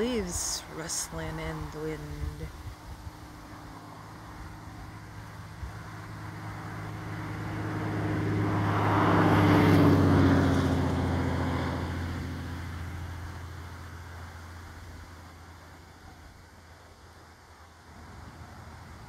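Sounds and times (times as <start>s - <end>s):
engine droning past: 0.0s - 19.0s.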